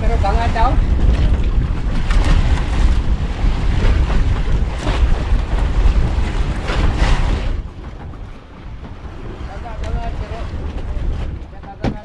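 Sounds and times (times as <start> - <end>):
waves washing: 0.0 - 12.0
wind buffeting microphone: 0.0 - 12.0.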